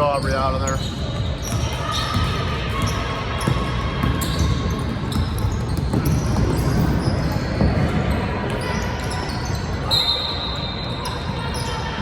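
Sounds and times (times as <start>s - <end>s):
basketball bouncing on court: 0.0s - 9.9s
din of crowd and players: 0.0s - 12.0s.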